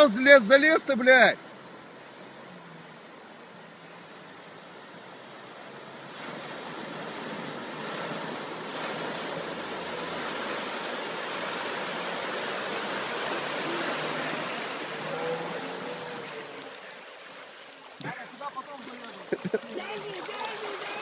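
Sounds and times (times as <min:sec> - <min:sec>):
water rushing and splashing: 0:00.0 - 0:21.0.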